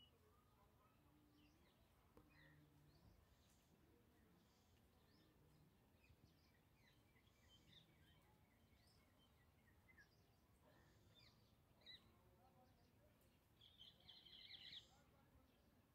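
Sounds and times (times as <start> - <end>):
quiet outdoor background noise: 0.0 - 15.9
small birds chirping: 0.0 - 15.9.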